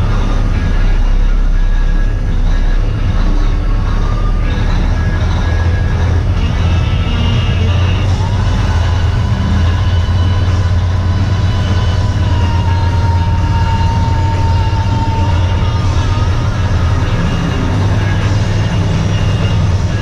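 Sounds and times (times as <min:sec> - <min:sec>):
diesel truck engine droning: 0:00.0 - 0:20.0
road noise: 0:00.0 - 0:20.0.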